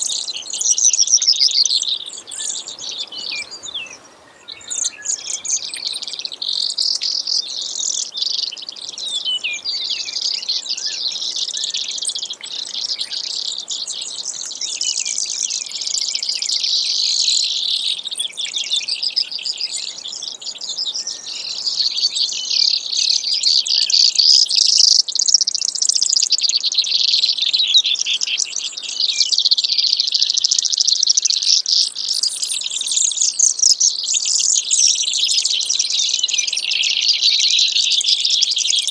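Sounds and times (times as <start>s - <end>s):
sparrow singing high trills: 0.0s - 38.9s.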